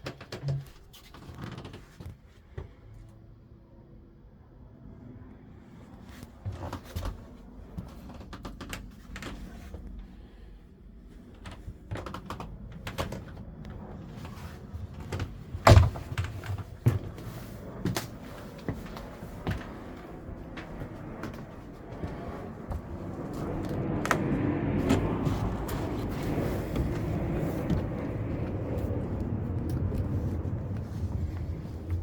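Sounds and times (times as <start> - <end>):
faint low rumble: 0.4 - 32.0.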